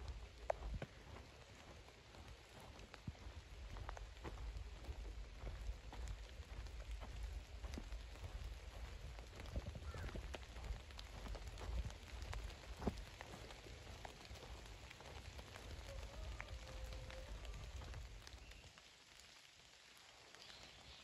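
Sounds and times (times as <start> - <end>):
raindrops ticking on surfaces: 0.0 - 21.0
steady rain: 0.0 - 21.0.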